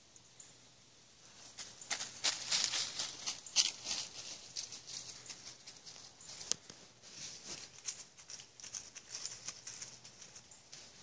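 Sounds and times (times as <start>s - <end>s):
footsteps crunching dry leaves: 1.4s - 11.0s.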